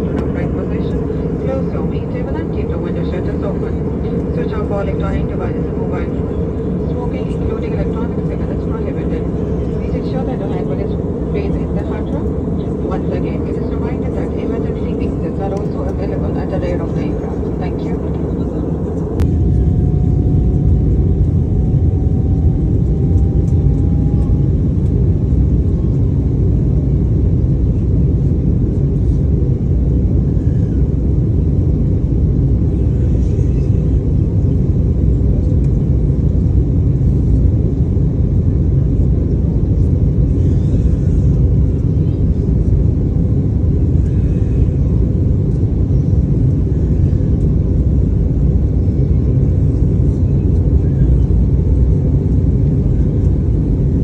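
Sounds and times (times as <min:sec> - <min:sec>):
faint whine: 0:00.0 - 0:27.2, 0:35.3 - 0:54.0
jet engine cabin rumble: 0:00.0 - 0:54.0.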